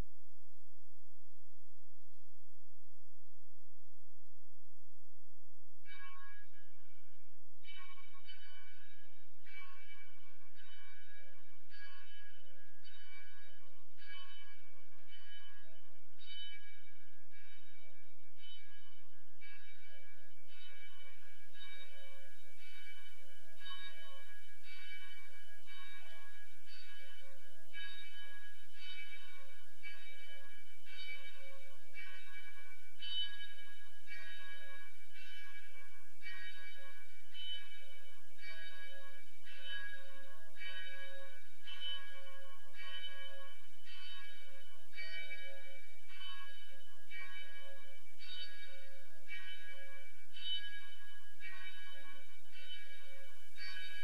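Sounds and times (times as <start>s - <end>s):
church bells ringing: 5.8s - 7.0s, 7.6s - 54.0s.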